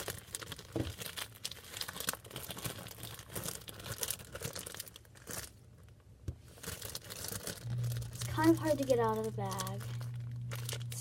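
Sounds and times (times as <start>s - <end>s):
plastic bag crinkling: 0.0s - 11.0s
slime squelching: 0.0s - 11.0s.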